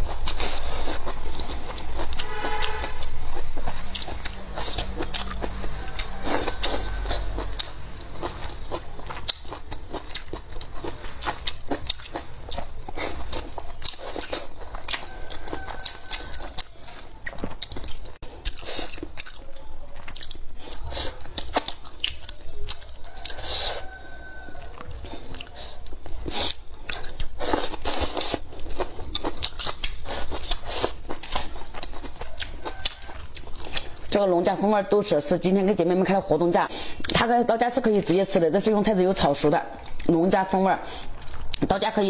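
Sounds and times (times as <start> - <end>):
chewing and crunching: 0.0 - 35.4, 37.0 - 42.0.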